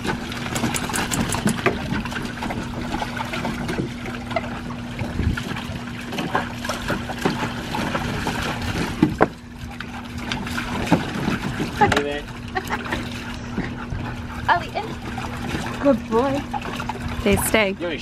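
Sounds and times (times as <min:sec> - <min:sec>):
steady low hum: 0:00.0 - 0:18.0
water splashing in a pool: 0:00.0 - 0:18.0.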